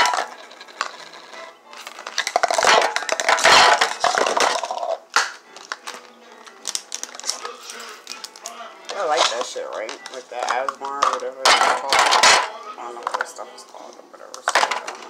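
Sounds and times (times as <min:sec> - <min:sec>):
plastic cups crinkling and clattering: 0:00.0 - 0:15.0.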